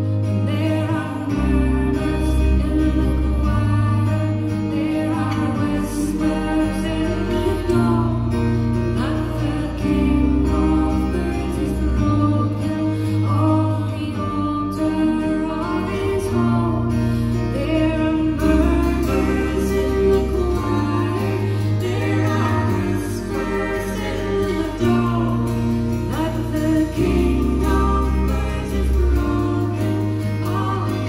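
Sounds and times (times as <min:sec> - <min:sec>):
guitar: 0:00.0 - 0:31.0.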